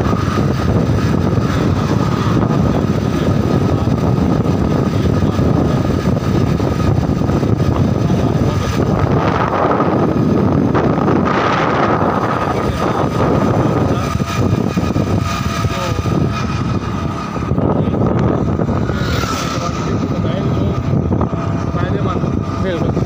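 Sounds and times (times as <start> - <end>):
motorbike road noise: 0.0 - 23.0
thin steady whine: 0.0 - 23.0
wind rushing: 0.0 - 23.0.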